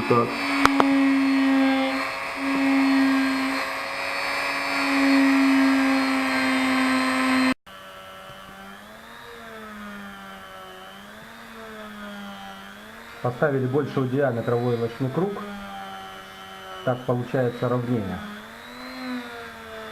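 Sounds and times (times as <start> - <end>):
low motor hum wavering: 0.0 - 19.9
rotary tool whining: 0.0 - 19.9.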